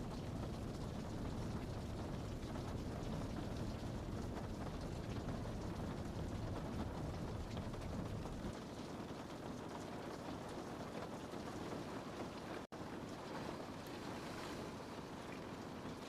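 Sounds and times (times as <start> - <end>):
rain pattering on window glass: 0.0 - 16.0.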